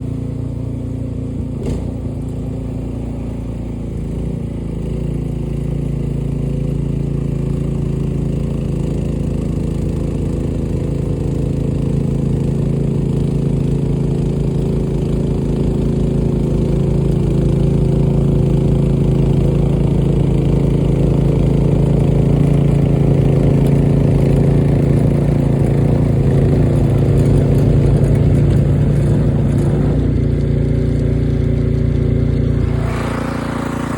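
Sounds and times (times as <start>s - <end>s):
snowblower engine running: 0.0s - 33.9s.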